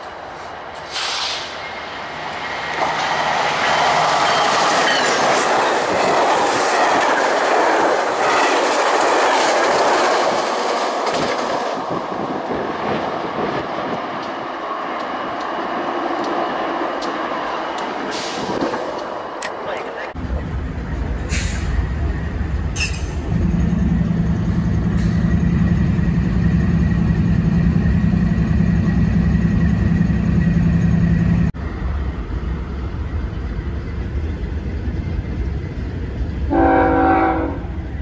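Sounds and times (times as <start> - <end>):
train wheels rolling on rails: 0.0 - 38.0.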